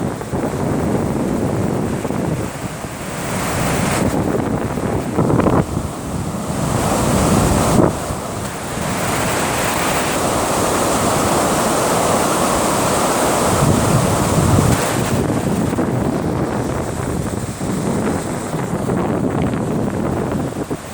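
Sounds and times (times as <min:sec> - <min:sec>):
water rushing at dam: 0:00.0 - 0:20.9
wind buffeting microphone: 0:00.0 - 0:20.9.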